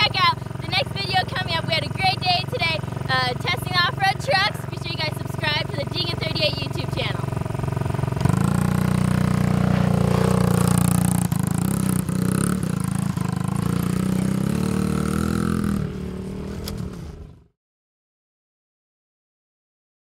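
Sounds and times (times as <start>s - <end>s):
dirt bike engine at high revs: 0.0s - 17.5s.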